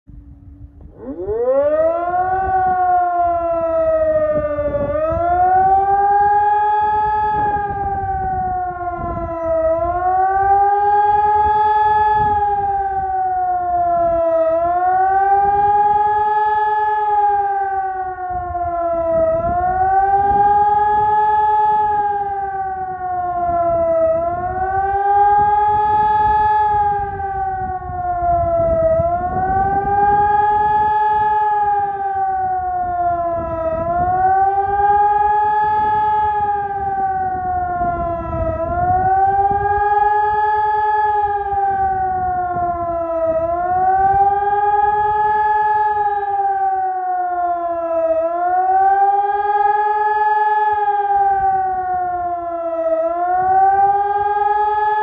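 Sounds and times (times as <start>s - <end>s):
wailing warning siren: 0.1s - 55.0s.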